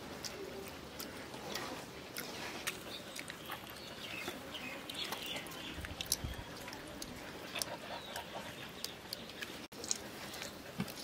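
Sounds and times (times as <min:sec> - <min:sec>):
people eating with fingers: 0:00.0 - 0:11.0
birds chirping: 0:01.2 - 0:10.7.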